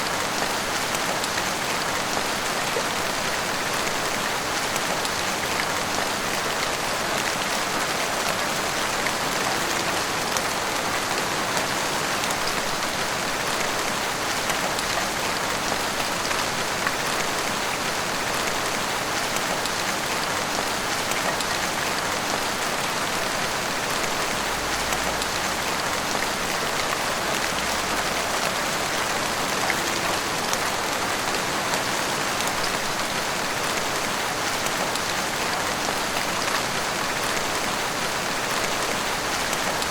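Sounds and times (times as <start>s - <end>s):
heavy rain: 0.0s - 39.9s
raindrops pattering on surfaces: 0.0s - 39.9s.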